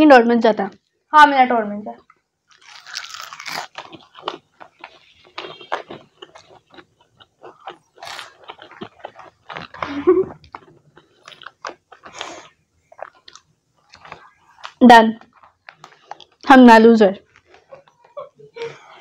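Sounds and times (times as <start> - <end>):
chewing crunchy pastry: 2.0 - 16.6, 17.2 - 19.0.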